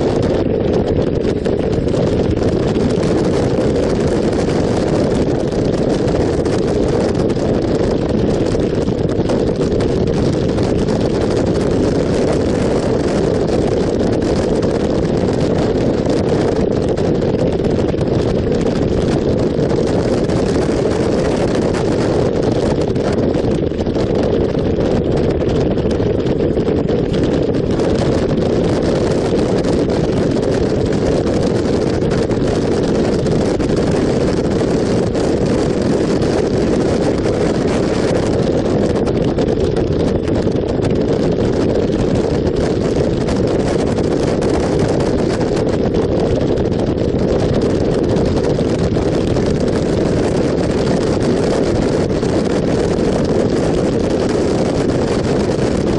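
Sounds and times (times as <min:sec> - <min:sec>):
wind on microphone: 0:00.0 - 0:55.9.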